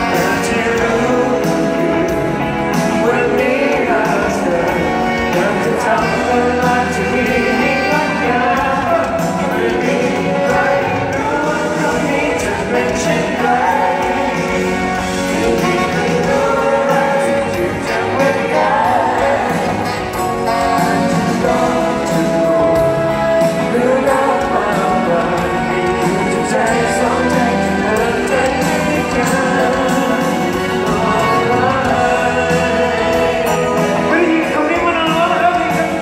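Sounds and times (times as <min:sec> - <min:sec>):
band playing pop music: 0:00.0 - 0:36.0
man singing: 0:00.0 - 0:36.0.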